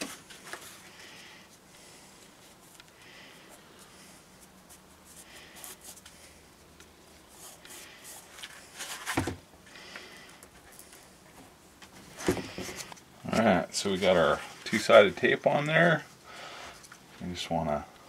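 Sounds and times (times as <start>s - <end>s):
rustling and scraping: 0.0s - 17.1s.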